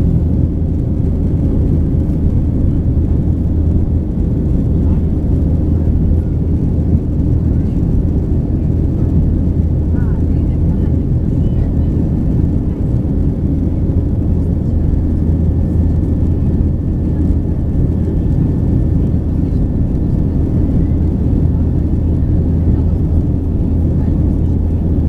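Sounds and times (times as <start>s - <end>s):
airplane cabin engine rumble: 0.0s - 25.0s.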